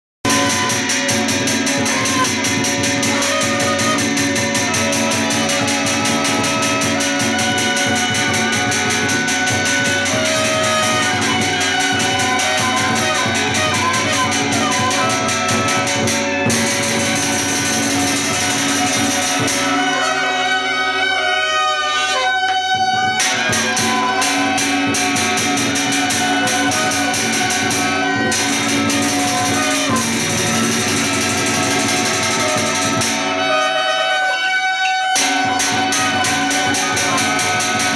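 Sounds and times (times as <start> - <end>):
clashing percussion: 0.2 - 37.9
shawms playing reedy melody: 0.2 - 37.9.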